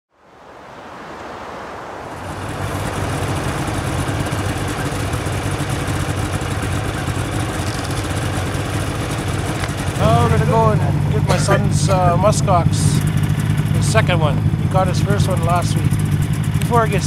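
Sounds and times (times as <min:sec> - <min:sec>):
snowmobile engine idling: 0:02.1 - 0:17.0.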